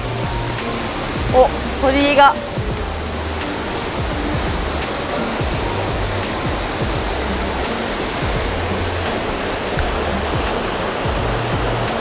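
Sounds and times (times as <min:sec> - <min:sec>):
soft background music: 0:00.0 - 0:12.0
waterfall roar: 0:00.0 - 0:12.0.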